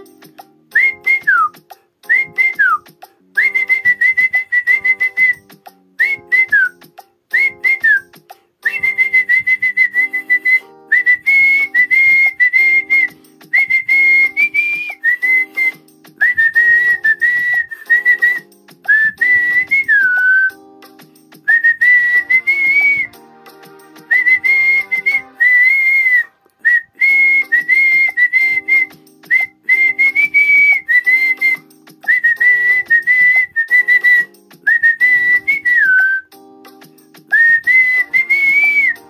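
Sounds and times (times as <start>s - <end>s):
man whistling a melody: 0.0s - 20.6s, 21.3s - 23.2s, 24.0s - 39.0s.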